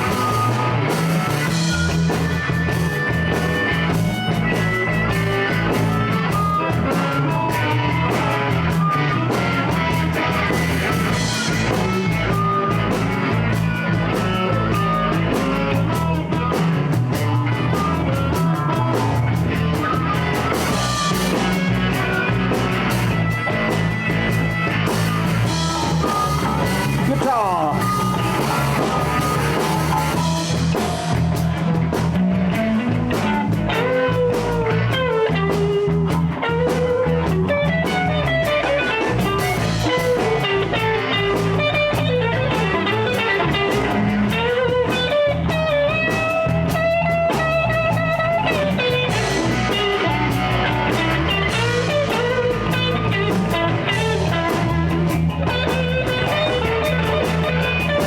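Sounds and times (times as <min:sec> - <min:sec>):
blues band playing: 0:00.0 - 0:58.0
lead guitar with bent notes: 0:00.0 - 0:58.0.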